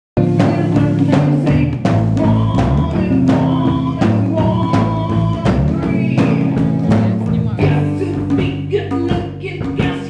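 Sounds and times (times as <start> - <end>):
live band playing loudly: 0.2 - 10.0
steady drum beat: 0.2 - 10.0.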